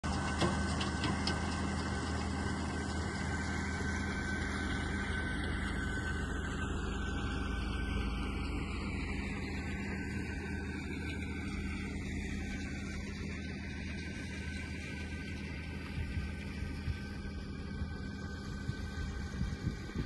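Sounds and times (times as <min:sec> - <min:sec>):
distant tractor engine humming: 0:00.0 - 0:20.0.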